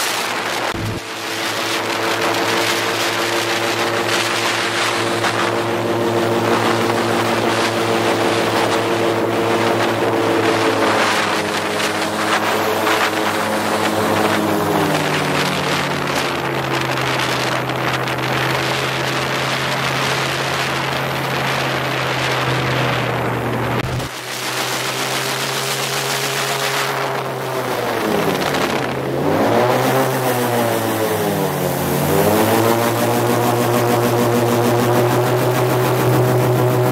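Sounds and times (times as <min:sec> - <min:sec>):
airboat engine and propeller: 0:00.0 - 0:36.9.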